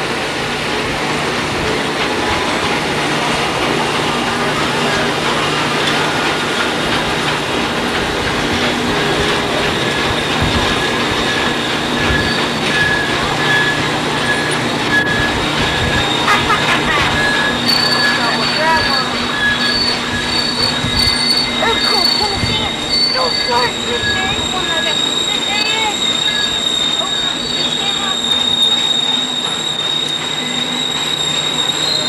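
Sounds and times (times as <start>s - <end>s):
high wheel squeal: 0.0s - 32.0s
train wheels rolling on rails: 0.0s - 32.0s.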